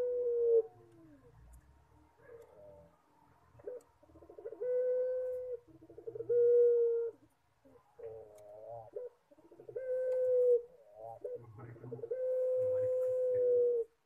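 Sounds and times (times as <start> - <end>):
dove cooing: 0.0 - 1.4, 2.2 - 14.0.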